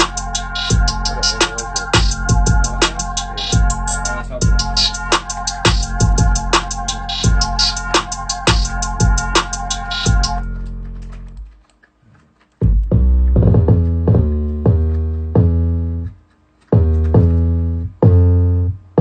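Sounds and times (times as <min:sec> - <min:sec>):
deep bass notes: 0:00.0 - 0:11.5, 0:12.6 - 0:16.2, 0:16.8 - 0:19.0
keyboard chords: 0:00.0 - 0:11.5, 0:12.6 - 0:19.0.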